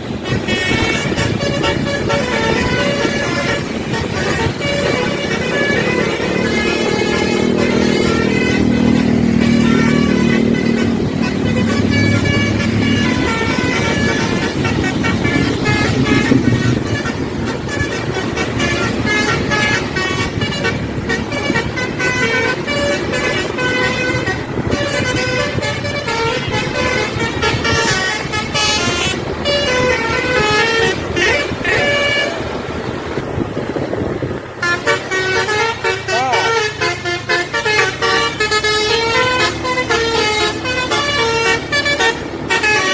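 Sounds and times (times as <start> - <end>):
musical air horn melody: 0.0 - 33.1, 34.6 - 42.9
bus engine running: 0.0 - 42.9.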